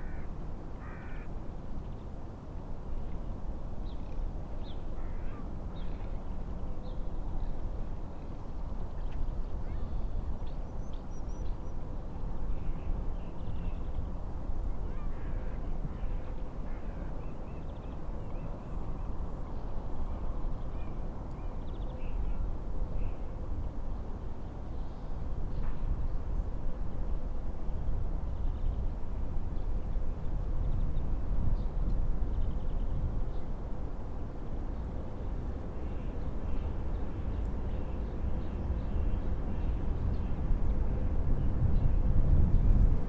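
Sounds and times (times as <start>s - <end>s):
wind: 0.0s - 43.0s.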